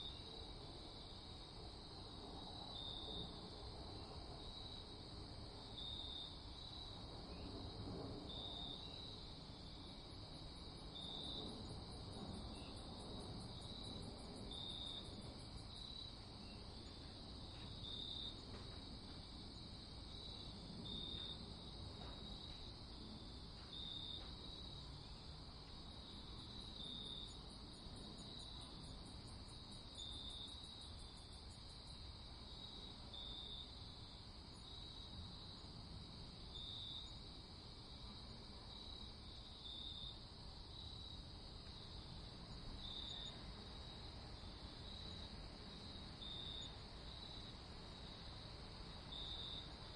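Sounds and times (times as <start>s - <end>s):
background hiss: 0.0s - 49.9s
crickets chirping: 0.0s - 49.9s
steady high insect trill: 0.0s - 49.9s.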